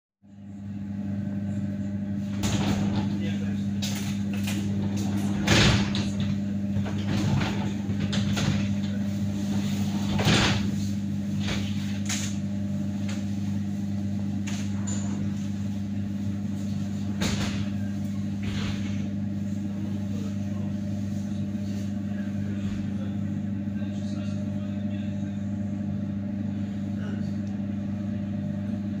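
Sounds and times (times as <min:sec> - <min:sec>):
railway carriage low hum: 0:01.4 - 0:25.8.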